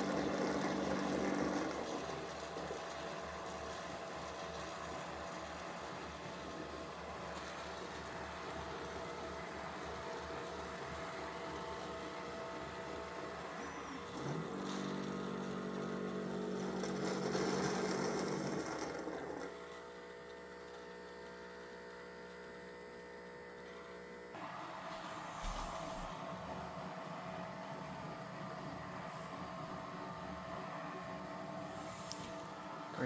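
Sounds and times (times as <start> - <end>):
motor whine: 0.0 - 33.0
motors and pump humming: 0.0 - 33.0.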